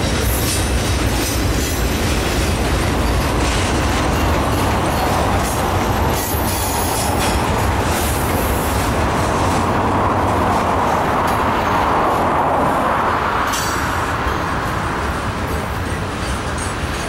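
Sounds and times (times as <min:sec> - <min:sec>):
freight wheels rumbling and clattering: 0:00.0 - 0:17.0.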